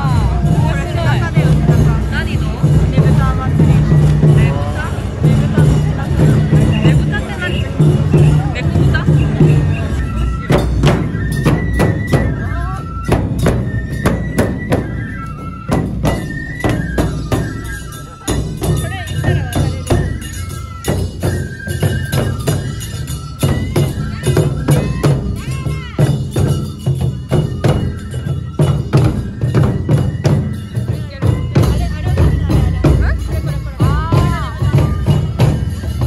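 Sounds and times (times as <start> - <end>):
bamboo flutes playing melody: 0.0 - 36.0
large taiko drums beating: 0.0 - 36.0.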